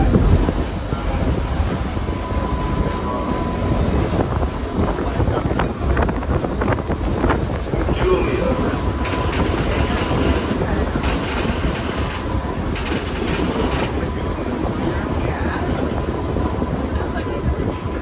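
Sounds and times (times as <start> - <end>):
streetcar wheels rumbling on track: 0.0 - 18.0.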